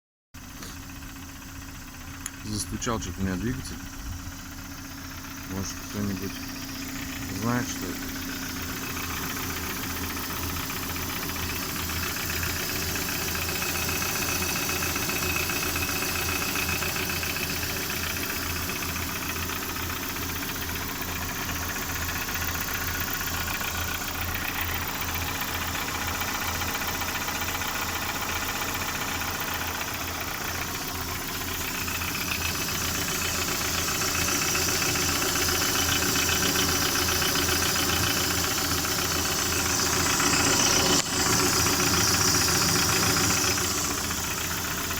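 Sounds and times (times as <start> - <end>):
engine running with rapid knock: 0.4 - 44.9.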